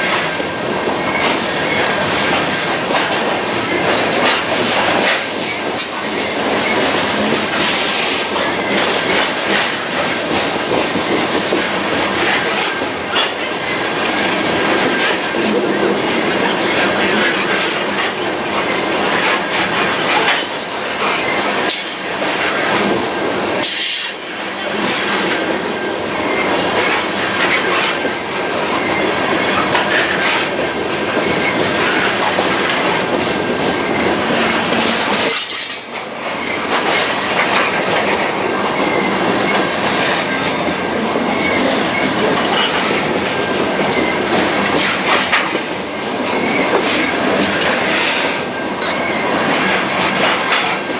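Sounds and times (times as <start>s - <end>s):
freight train rumble: 0.0s - 50.9s
wheels clacking over rail joints: 0.0s - 50.9s.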